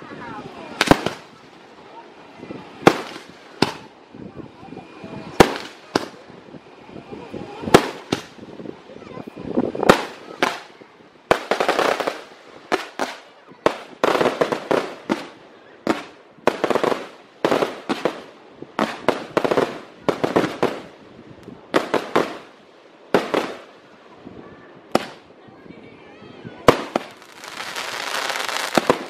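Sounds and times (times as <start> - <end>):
fireworks crackling: 0.0 - 24.2, 24.8 - 25.4, 26.5 - 29.0.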